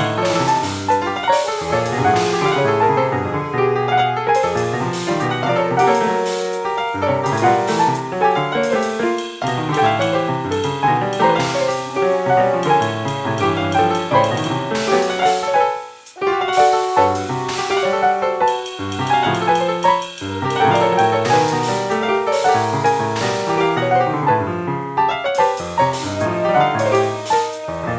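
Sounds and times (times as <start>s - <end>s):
free jazz piano: 0.0s - 27.9s.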